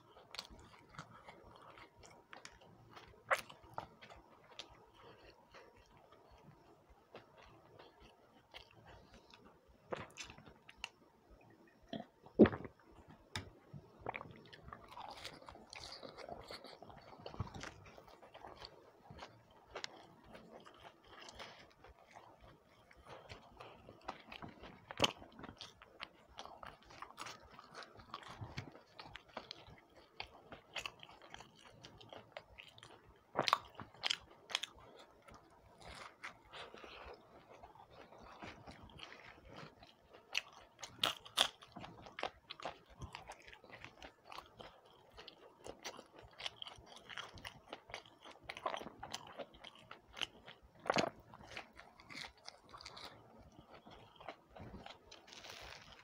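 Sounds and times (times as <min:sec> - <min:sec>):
crunching and wet chewing: 0:00.0 - 0:56.0.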